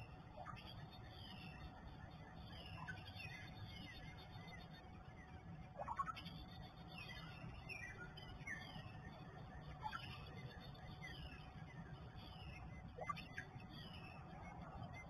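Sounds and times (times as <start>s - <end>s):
songbirds calling faintly: 0.0s - 15.0s.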